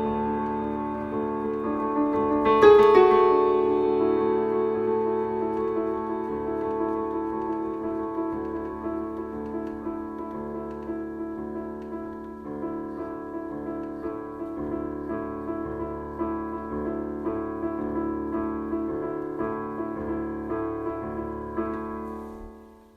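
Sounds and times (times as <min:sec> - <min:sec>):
sad keyboard piano tune: 0:00.0 - 0:22.9.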